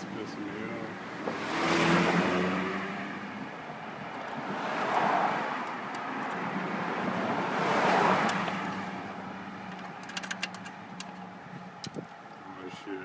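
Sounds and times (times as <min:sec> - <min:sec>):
vehicles passing by: 0:00.0 - 0:13.0.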